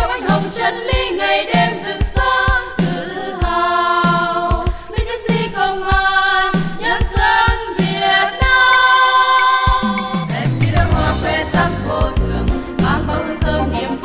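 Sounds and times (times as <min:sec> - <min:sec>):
backing track with drum beat: 0:00.0 - 0:14.0
women singing in unison: 0:00.0 - 0:14.0.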